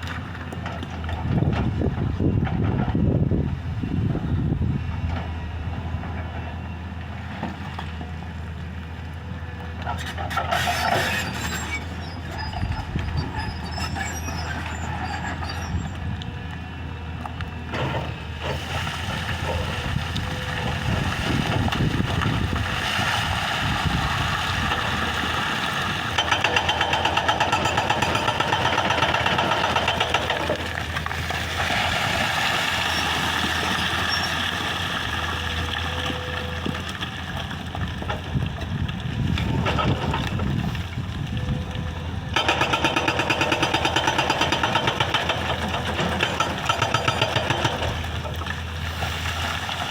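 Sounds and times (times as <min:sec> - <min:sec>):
excavator diesel engine: 0:00.0 - 0:49.9.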